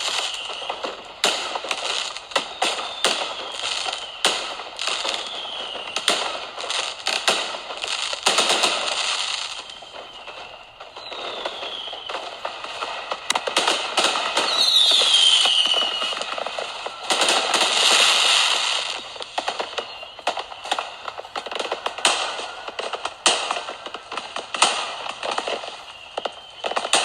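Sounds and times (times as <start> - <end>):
falling firework whistles: 0.0 - 27.0
firework bangs: 0.0 - 27.0
firework crackling: 0.0 - 27.0.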